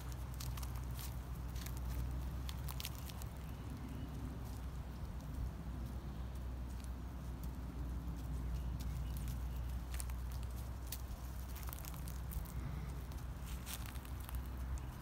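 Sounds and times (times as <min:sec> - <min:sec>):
footsteps on dry leaves: 0:00.0 - 0:15.0
steady low outdoor rumble: 0:00.0 - 0:15.0.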